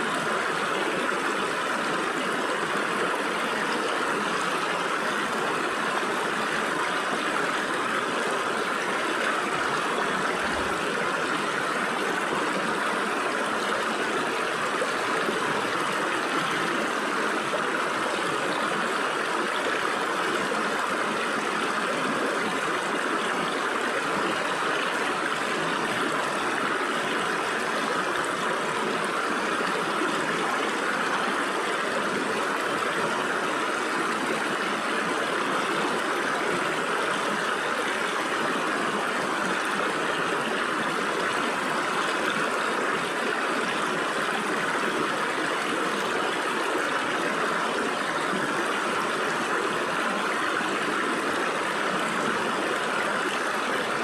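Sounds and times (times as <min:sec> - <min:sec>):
stream water flowing over rocks: 0:00.0 - 0:54.0.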